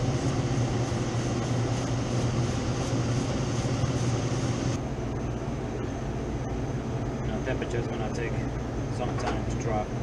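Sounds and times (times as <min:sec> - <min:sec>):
compressor low hum: 0:00.0 - 0:10.0.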